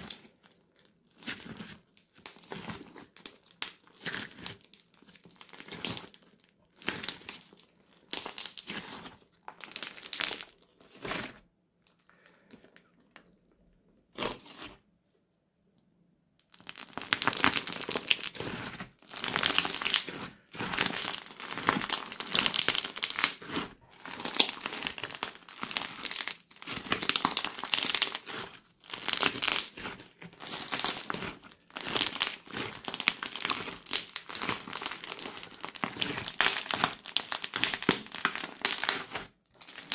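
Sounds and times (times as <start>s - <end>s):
slime crackling and popping: 0.0s - 12.0s, 16.4s - 39.9s.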